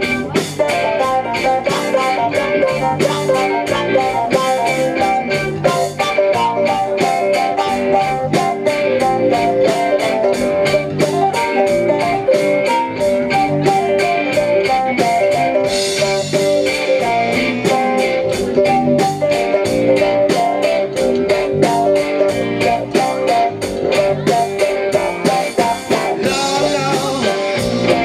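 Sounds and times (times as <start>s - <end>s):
electric guitar: 0.0s - 28.0s
live rock band playing: 0.0s - 28.0s.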